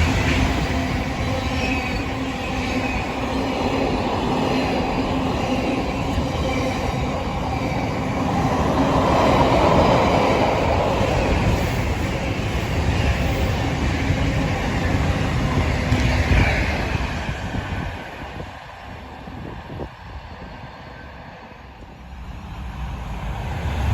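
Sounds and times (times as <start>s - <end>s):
train passing at speed: 0.0s - 23.9s.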